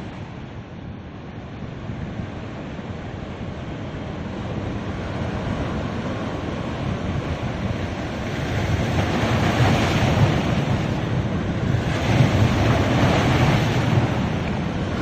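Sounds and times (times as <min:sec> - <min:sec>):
ocean surf washing onto beach: 0:00.0 - 0:15.0
wind rumbling on microphone: 0:00.0 - 0:15.0.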